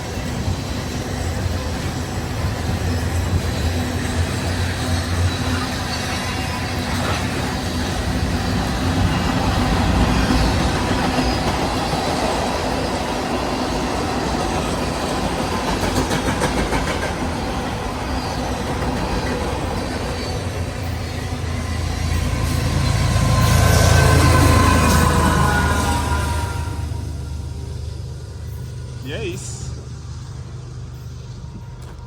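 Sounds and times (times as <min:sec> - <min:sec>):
freight train wheels rattling on rails: 0:00.0 - 0:32.0.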